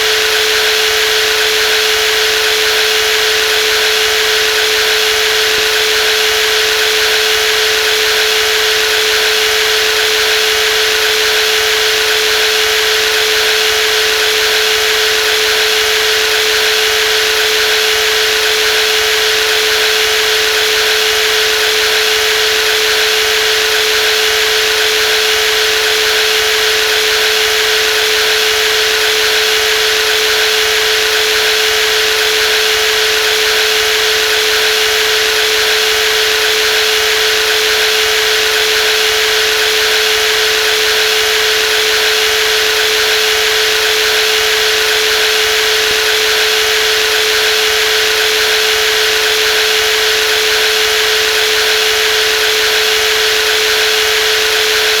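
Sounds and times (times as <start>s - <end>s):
jigsaw running: 0.0s - 55.0s.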